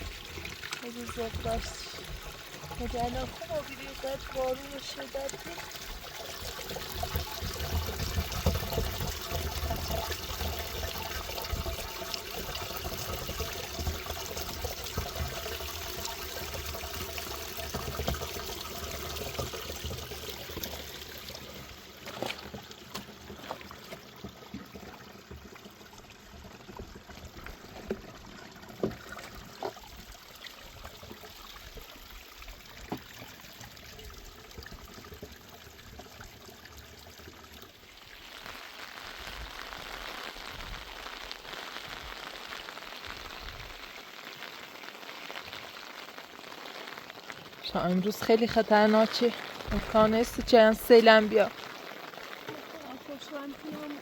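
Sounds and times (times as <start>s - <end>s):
water running and pouring: 0.0s - 54.0s.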